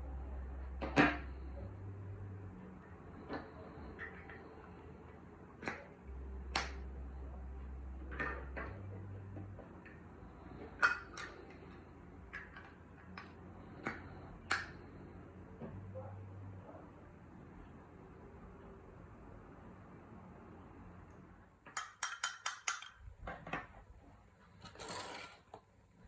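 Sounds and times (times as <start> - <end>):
faint low hum: 0.0 - 21.6.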